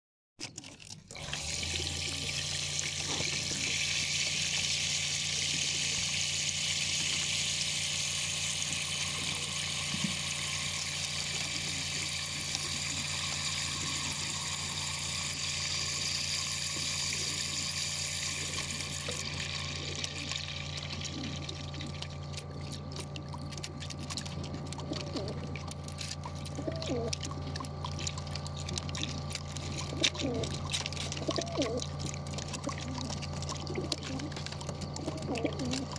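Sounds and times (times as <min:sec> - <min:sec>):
water rushing into a trough: 0:00.6 - 0:35.9
steady low hum: 0:01.3 - 0:35.9.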